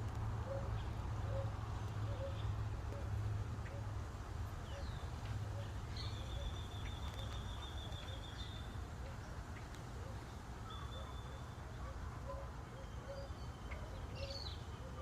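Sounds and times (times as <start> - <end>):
small birds chirping and trilling: 0.4 - 15.0.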